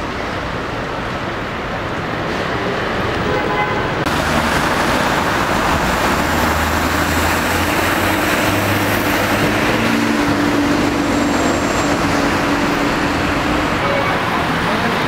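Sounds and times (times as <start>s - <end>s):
road noise: 0.0s - 15.0s
vehicle engines humming: 0.0s - 15.0s.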